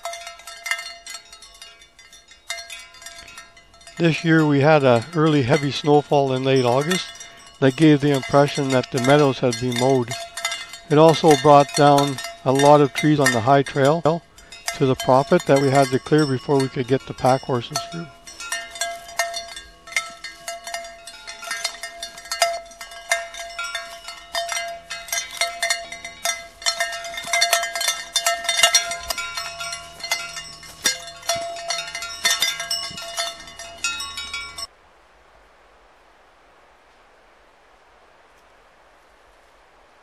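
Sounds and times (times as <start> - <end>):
horse bells clanking: 0.0 - 34.7.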